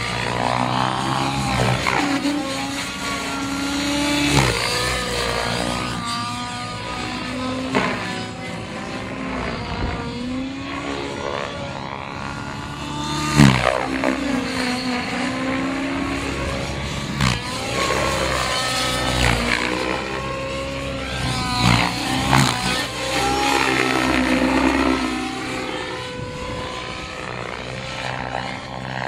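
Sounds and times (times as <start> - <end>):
model helicopter motor and rotor: 0.0 - 29.0.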